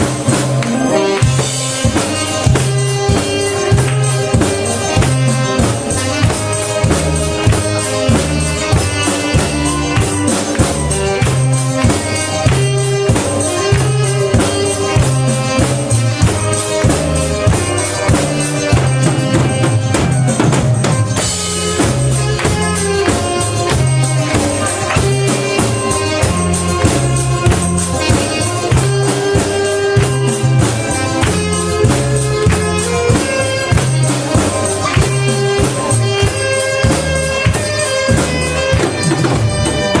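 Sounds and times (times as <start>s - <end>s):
bass line: 0.0s - 40.0s
drum kit beat: 0.0s - 40.0s
saxophone: 0.0s - 40.0s.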